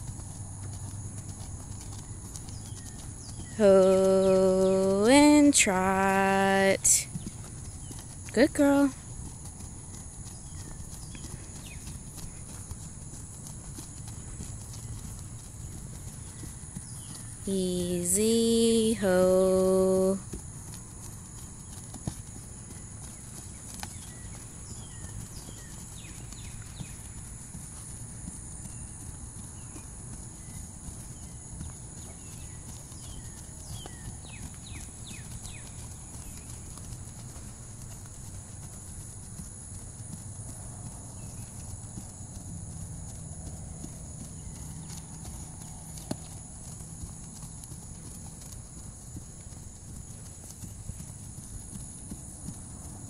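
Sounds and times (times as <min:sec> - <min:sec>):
horse hooves cantering on grass: 0:00.0 - 0:53.0.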